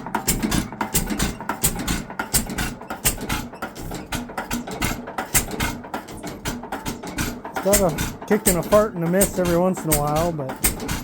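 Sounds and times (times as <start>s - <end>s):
hit-and-miss engine popping: 0.0s - 11.0s.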